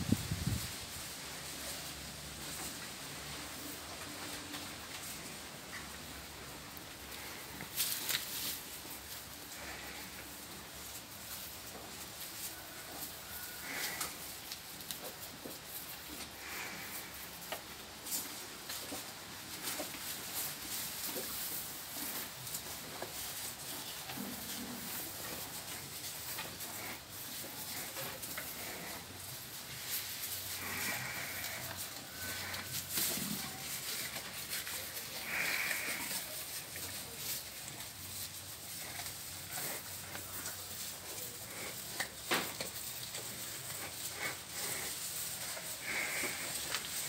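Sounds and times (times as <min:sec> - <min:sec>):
calf chewing grass: 0:00.0 - 0:47.0
grass stalks rustling: 0:00.0 - 0:47.0.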